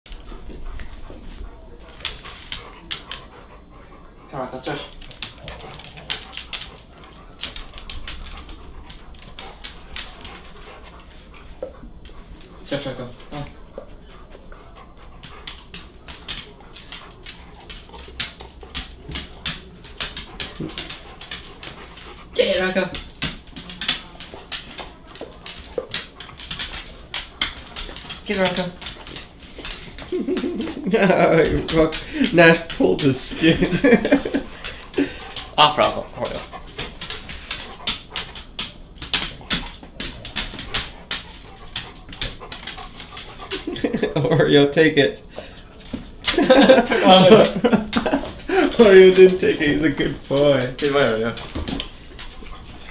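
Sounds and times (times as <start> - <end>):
dog panting: 0.1 - 52.9.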